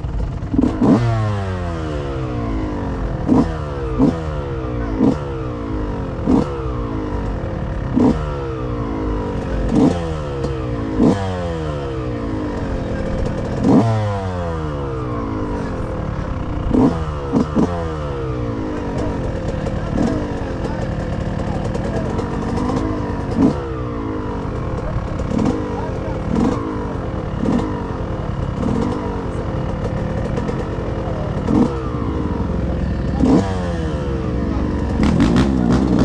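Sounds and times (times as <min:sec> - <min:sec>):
bikes on track: 0:00.0 - 0:36.0
motocross bikes racing past: 0:00.5 - 0:36.0.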